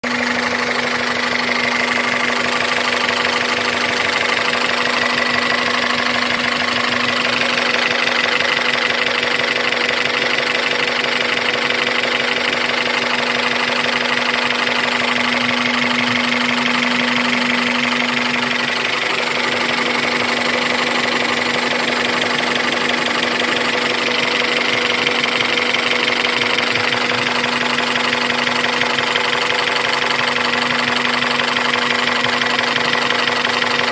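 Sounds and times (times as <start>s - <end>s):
car engine idling with ticking knock: 0.0s - 33.9s.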